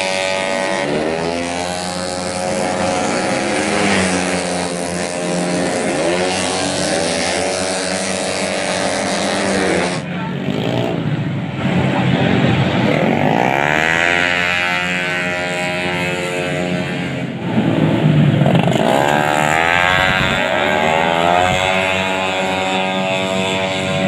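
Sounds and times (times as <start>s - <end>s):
scooter engines revving: 0.0s - 24.0s.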